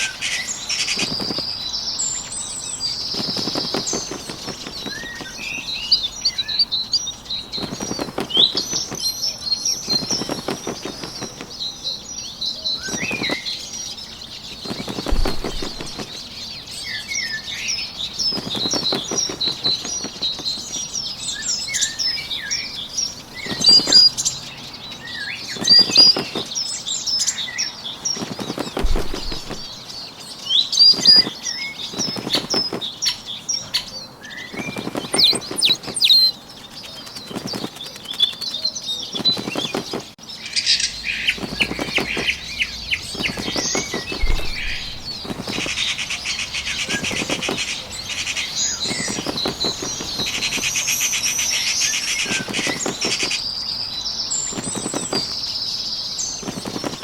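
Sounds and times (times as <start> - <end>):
bird wings fluttering: 0.0 - 40.2, 40.8 - 53.5, 54.3 - 57.0
songbirds chirping: 0.0 - 57.0.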